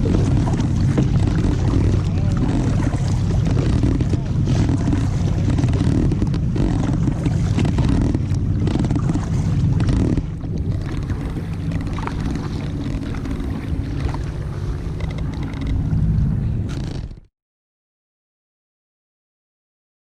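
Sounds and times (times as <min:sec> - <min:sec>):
kayak paddling in water: 0:00.0 - 0:17.3
wind rumbling on microphone: 0:00.0 - 0:17.3.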